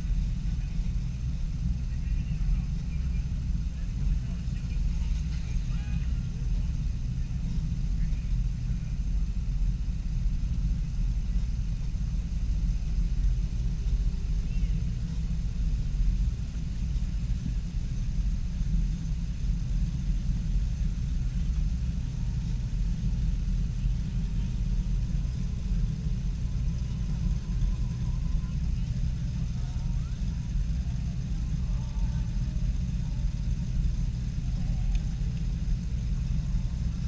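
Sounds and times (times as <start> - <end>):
car engine running: 0.0 - 37.0.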